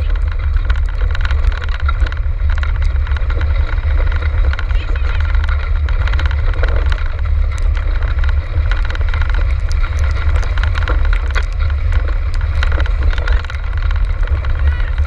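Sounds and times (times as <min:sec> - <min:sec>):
cart wheels rumbling and rattling: 0:00.0 - 0:15.0
wind buffeting microphone: 0:00.0 - 0:15.0.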